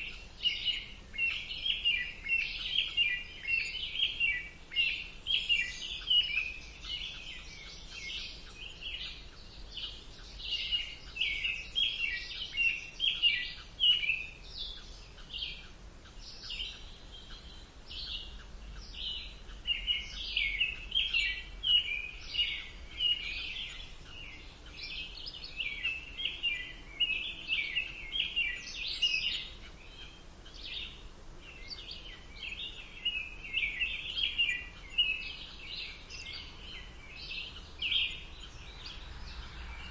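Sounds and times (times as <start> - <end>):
faint steady background hum: 0.0 - 39.9
songbirds chirping and singing: 0.0 - 39.9.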